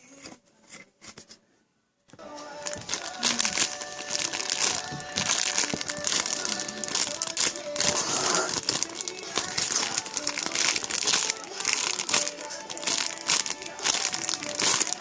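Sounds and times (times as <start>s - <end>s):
background music: 2.1s - 15.0s
packaging crinkling: 2.6s - 15.0s.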